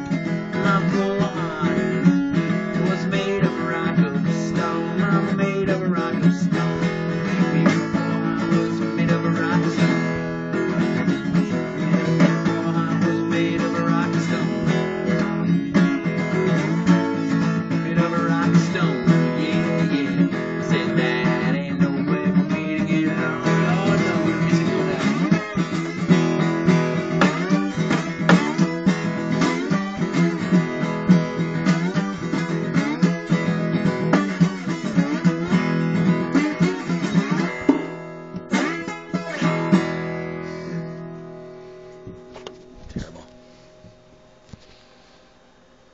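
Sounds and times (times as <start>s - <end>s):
acoustic guitar blues: 0.0s - 45.9s.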